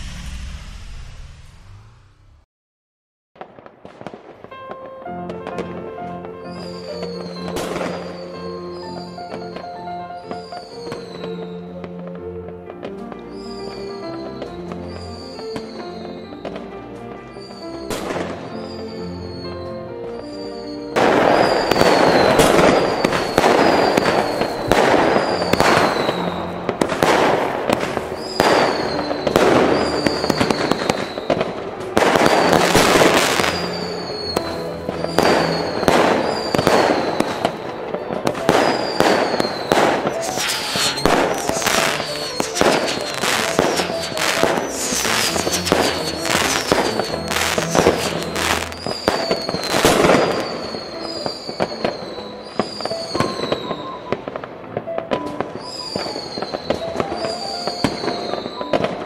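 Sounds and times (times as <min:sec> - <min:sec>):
falling firework whistle: 0:00.0 - 0:02.4, 0:06.3 - 0:12.0, 0:13.2 - 0:59.0
fireworks bangs and crackling: 0:00.0 - 0:02.4, 0:03.4 - 0:59.0
background music: 0:04.0 - 0:59.0.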